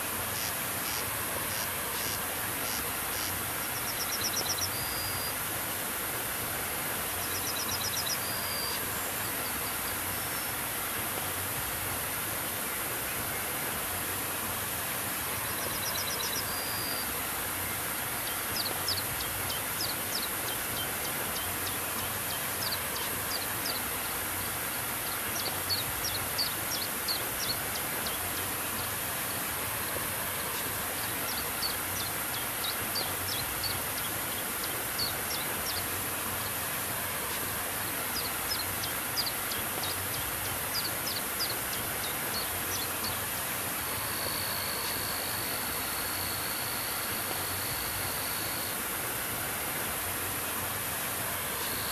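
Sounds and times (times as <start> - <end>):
stream flowing over rock: 0.0 - 51.9.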